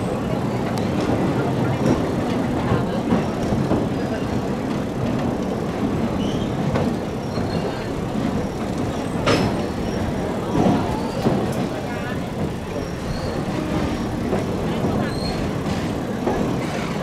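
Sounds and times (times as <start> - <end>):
train carriage rumbling on track: 0.0 - 17.0.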